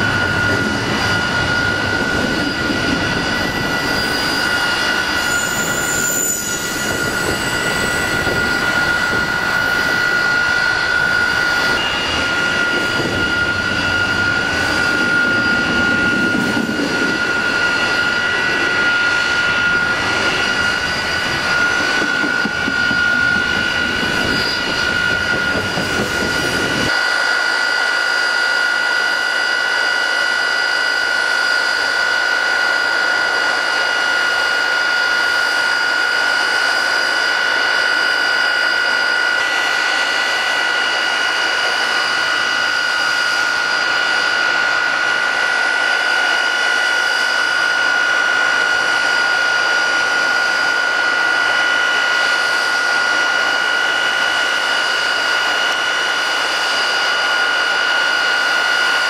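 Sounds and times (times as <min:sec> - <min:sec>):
high-pitched whine: 0:00.0 - 0:59.0
jet engine roaring: 0:00.0 - 0:59.0.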